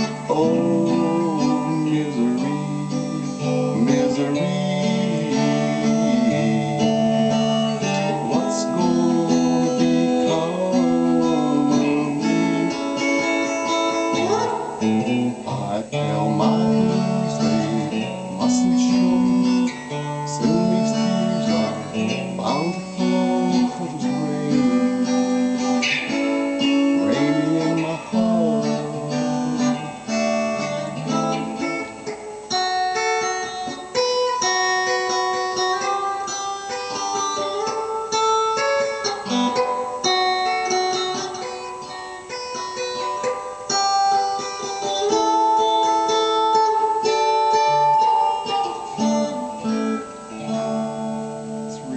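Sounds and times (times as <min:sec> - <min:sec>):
electric guitar melody: 0:00.0 - 0:51.9.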